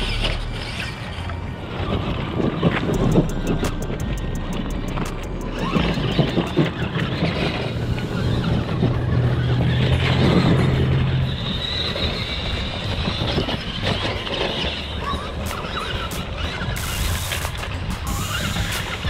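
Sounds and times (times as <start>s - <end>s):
electric motor and gear whine: 0.0s - 19.0s
tyre and chassis noise: 0.0s - 19.0s.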